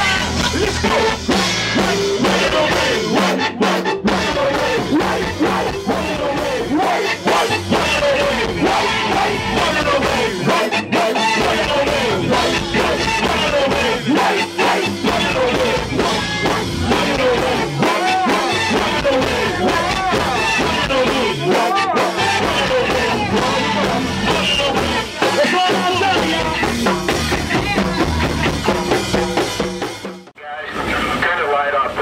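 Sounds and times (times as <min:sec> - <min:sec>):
percussion-driven band playing: 0:00.0 - 0:31.1.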